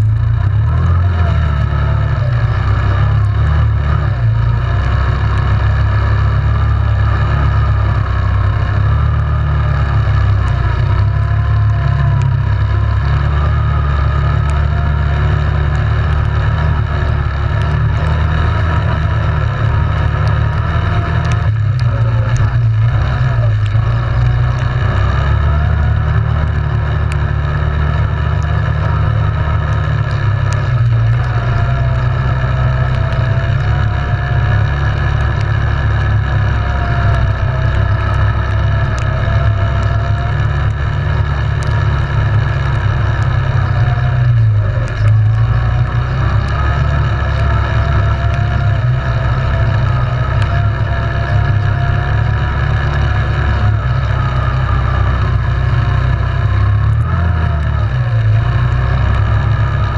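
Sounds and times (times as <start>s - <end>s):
atv engine rumble and whine: 0.0s - 59.9s.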